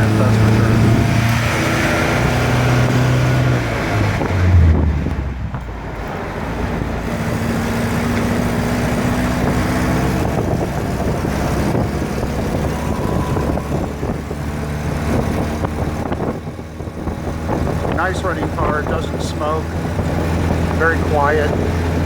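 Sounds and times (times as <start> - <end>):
car engine under load: 0.0 - 22.0
road and wind noise: 0.0 - 22.0.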